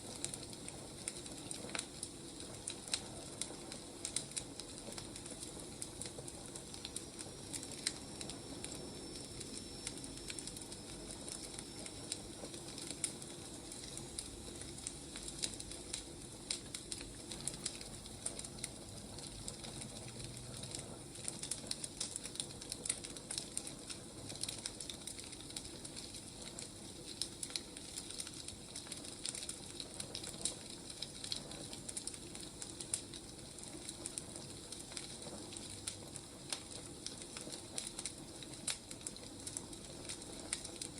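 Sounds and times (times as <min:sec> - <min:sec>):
soft steady hiss: 0:00.0 - 0:40.9
wood fire crackling and popping: 0:00.0 - 0:40.9.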